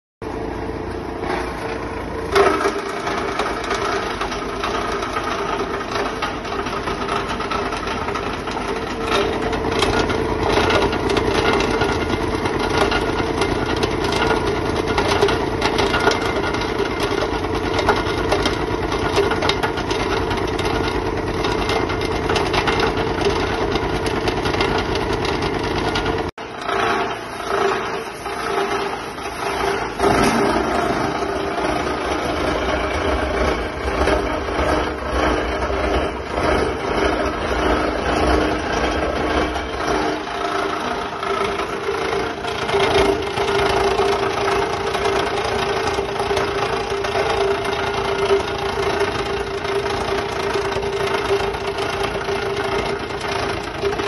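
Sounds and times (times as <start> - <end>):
shredder motor hum: 0.2 - 54.0
shredder knives clattering: 2.2 - 54.0.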